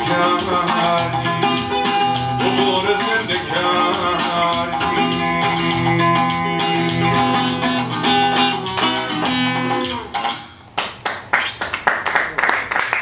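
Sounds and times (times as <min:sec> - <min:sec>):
acoustic guitar strumming: 0:00.0 - 0:10.7.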